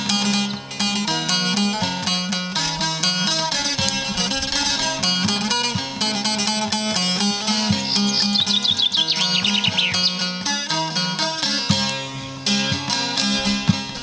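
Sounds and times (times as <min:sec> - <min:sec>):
plucked lute run: 0:00.0 - 0:14.0.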